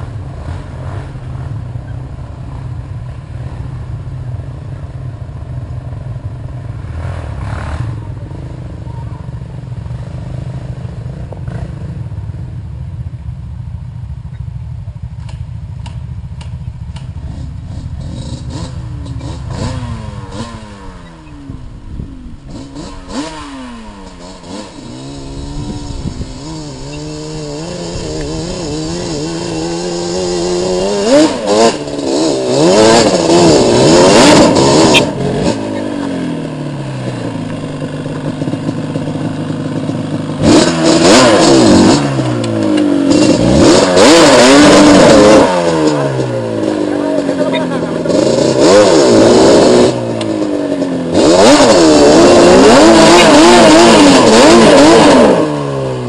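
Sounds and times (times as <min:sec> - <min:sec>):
quad engines revving: 0:00.0 - 0:02.7, 0:05.4 - 0:12.1, 0:15.3 - 0:56.0.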